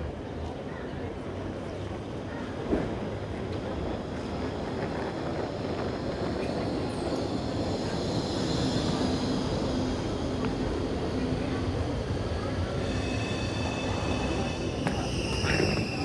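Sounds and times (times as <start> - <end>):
tram rumbling on tracks: 0.0 - 16.0.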